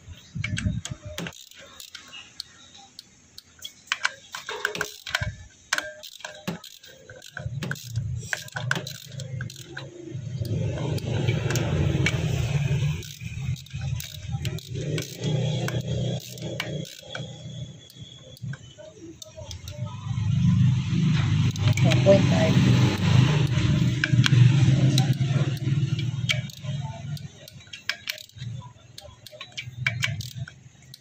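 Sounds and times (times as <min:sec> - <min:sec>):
ratchet wrench clicking: 0:00.2 - 0:31.0
metal tools clinking: 0:00.3 - 0:02.5, 0:03.4 - 0:31.0.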